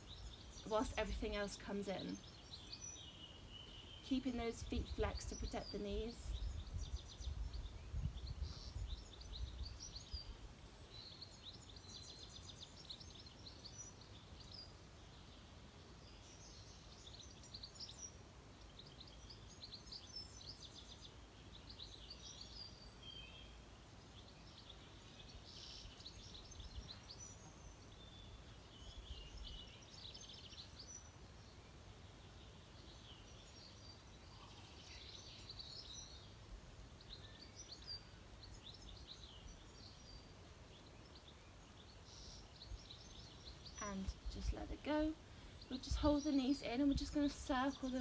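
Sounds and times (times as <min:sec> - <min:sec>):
quiet outdoor hiss: 0:00.0 - 0:48.0
small birds chirping and trilling: 0:00.0 - 0:48.0.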